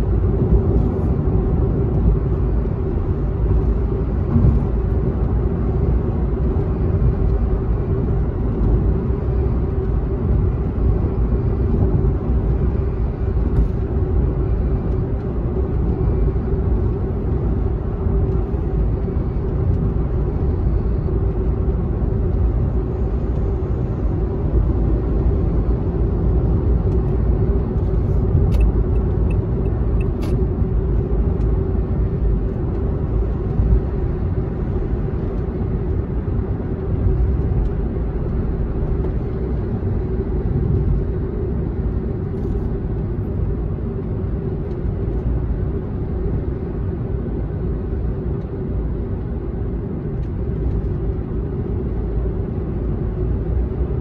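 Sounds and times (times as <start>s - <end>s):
car road noise rumble: 0.0s - 54.0s.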